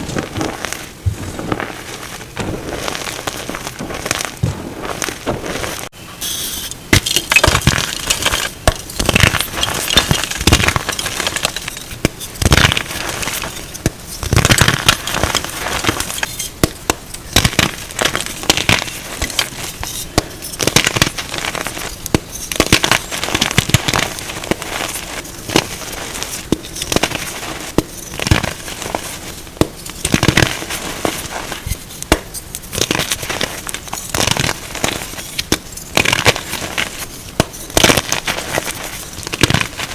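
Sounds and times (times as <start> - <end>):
chalk crunching and crackling: 0.0 - 5.9, 6.9 - 39.9.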